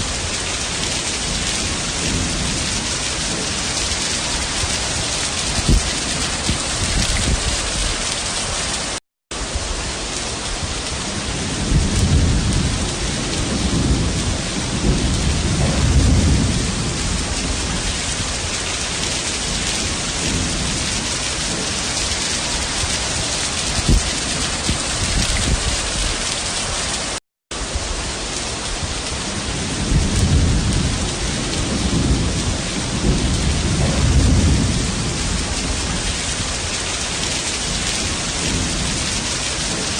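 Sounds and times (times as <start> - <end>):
low thunder rumble: 0.0 - 8.6, 9.3 - 26.5, 27.5 - 39.9
heavy rain pouring: 0.0 - 39.9.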